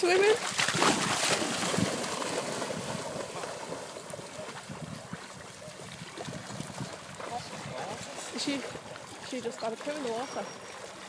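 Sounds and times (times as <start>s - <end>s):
dogs splashing in water: 0.0s - 11.0s.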